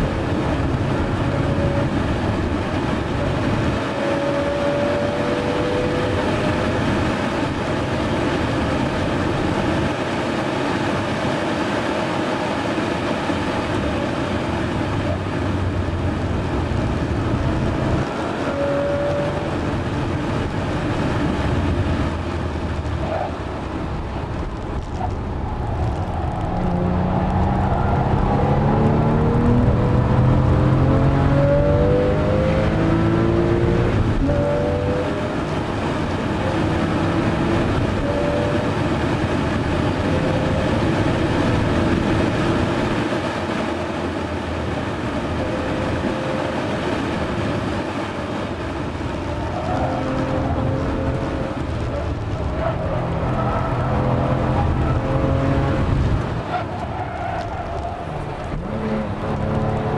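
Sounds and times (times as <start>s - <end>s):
car engine accelerating: 0.0s - 59.9s
tyre and road noise: 0.0s - 59.9s.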